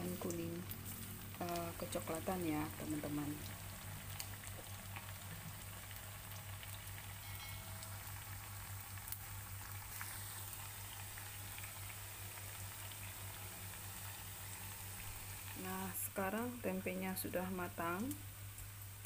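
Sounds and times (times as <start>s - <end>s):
faint crackles: 0.0s - 16.5s
food sizzling in oil: 0.0s - 19.0s.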